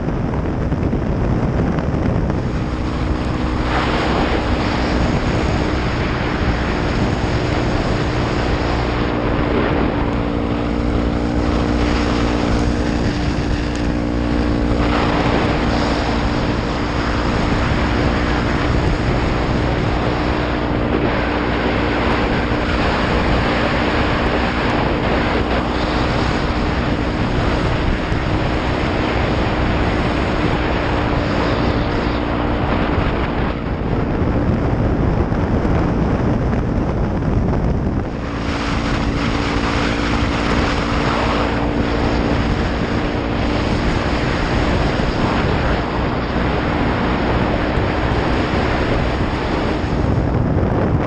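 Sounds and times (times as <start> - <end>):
motorcycle engine hum: 0.0 - 51.0
wind noise on camera: 0.0 - 51.0.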